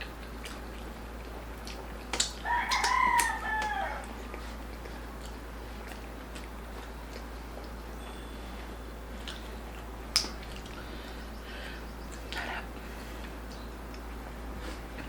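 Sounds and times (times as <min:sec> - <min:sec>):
quiet chewing: 0:00.0 - 0:15.0
steady low hum: 0:00.0 - 0:15.0.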